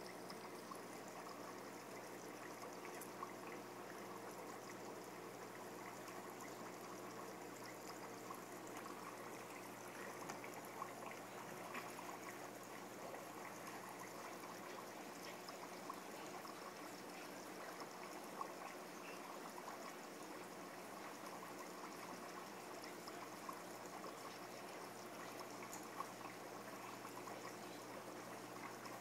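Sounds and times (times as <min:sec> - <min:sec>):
water trickling and bubbling: 0:00.0 - 0:29.0.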